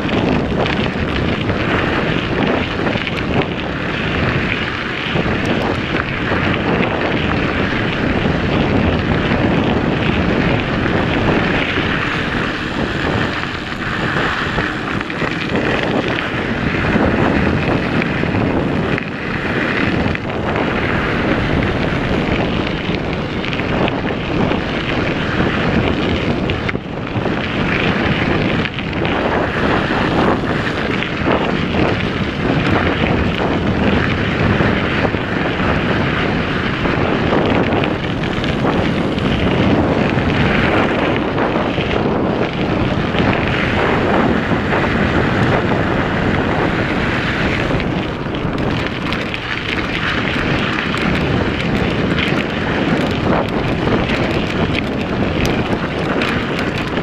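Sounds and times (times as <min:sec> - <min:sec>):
bike rattling: 0:00.0 - 0:57.0
bike tyres on dirt: 0:00.0 - 0:57.0
wind on microphone: 0:00.0 - 0:57.0.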